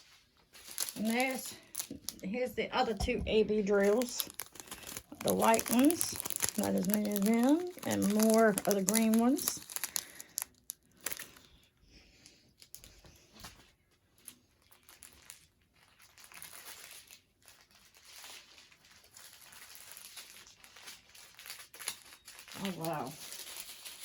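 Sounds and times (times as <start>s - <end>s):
plastic bags crinkling: 0.0s - 11.8s, 12.5s - 24.0s.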